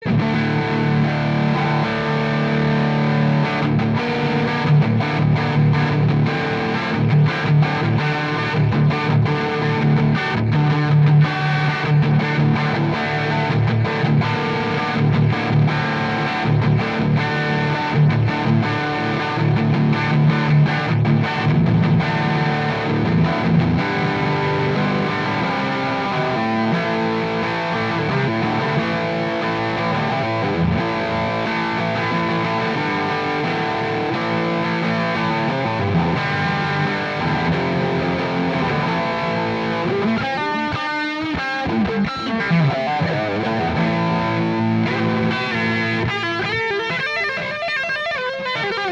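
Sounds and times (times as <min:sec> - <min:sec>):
overdriven electric guitar melody: 0:00.0 - 0:48.9.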